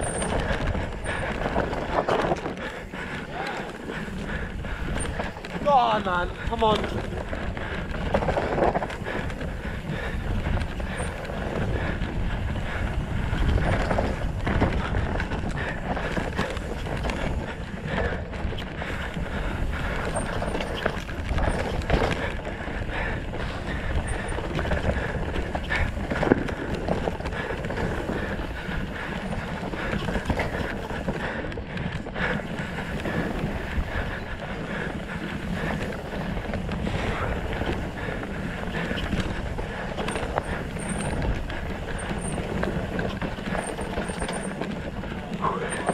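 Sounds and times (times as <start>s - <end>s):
wind on microphone: 0.0s - 44.0s
bike knocking and rattling: 0.0s - 45.9s
bike tyres rushing on dirt: 0.0s - 45.9s.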